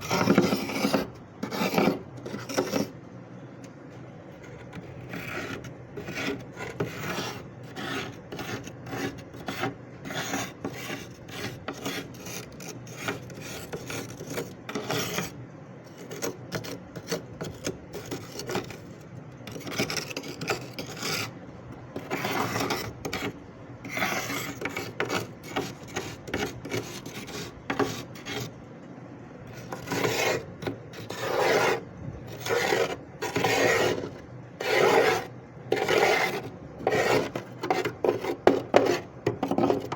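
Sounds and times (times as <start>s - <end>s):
freezer frost being scraped: 0.0s - 3.0s, 4.4s - 28.6s, 29.5s - 39.9s.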